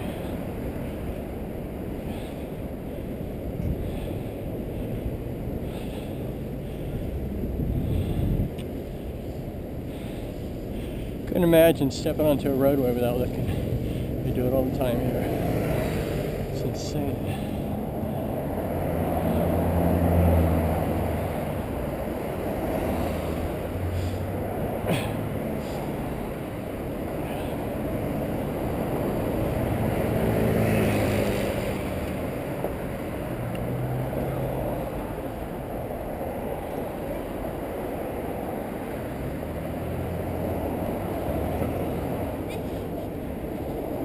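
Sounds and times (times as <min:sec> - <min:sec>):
city road traffic: 0:00.0 - 0:44.0
vehicle passing: 0:00.0 - 0:44.0
wind rush: 0:00.0 - 0:44.0.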